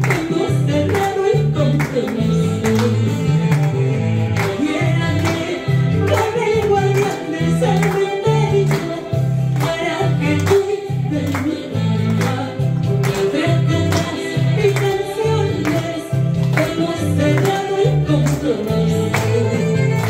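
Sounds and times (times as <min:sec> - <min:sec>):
singing over a beat: 0:00.0 - 0:20.0
stepping bass line: 0:00.0 - 0:20.0.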